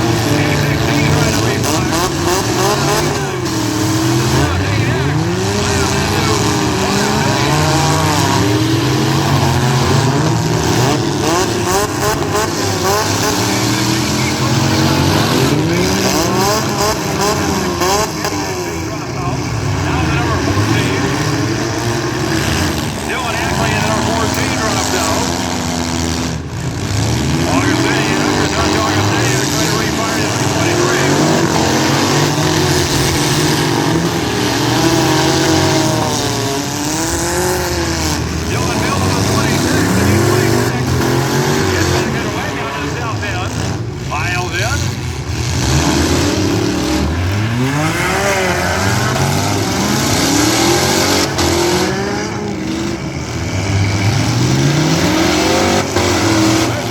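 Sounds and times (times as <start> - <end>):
car engines revving together: 0.0 - 56.9.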